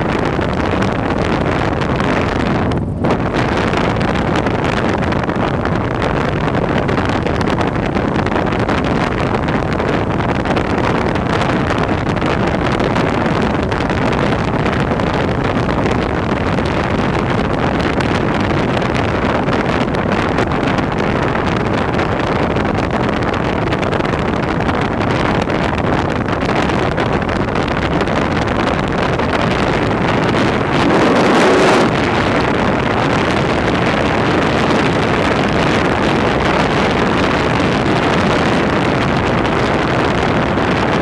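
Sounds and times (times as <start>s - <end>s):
vehicle running noise: 0.0s - 41.0s
wind rushing over microphone: 0.0s - 41.0s.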